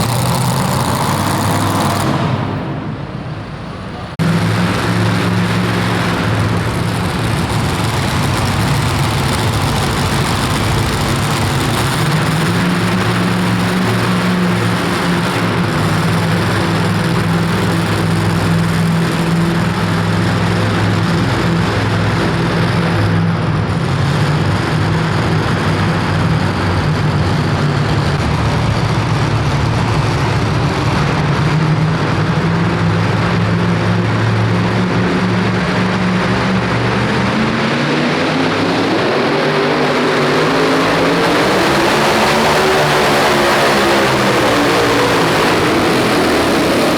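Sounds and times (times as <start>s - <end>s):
truck engine at full throttle: 0.0s - 46.9s.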